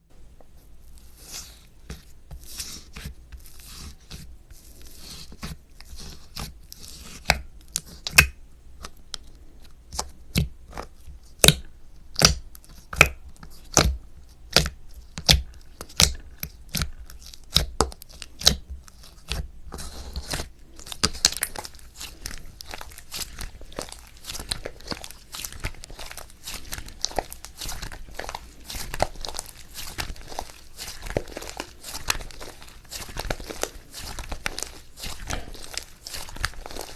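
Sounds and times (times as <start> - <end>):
slime crackling: 0.9 - 36.9.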